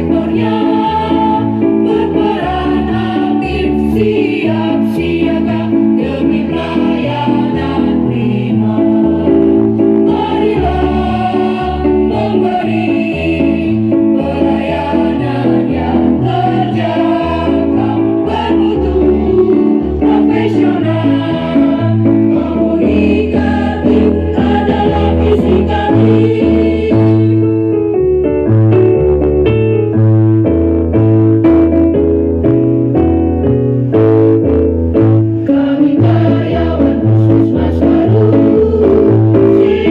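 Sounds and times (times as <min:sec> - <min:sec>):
choir singing in parts: 0:00.0 - 0:27.7, 0:35.4 - 0:39.9
keyboard accompaniment: 0:00.0 - 0:39.9
steady bass pulse: 0:00.0 - 0:39.9.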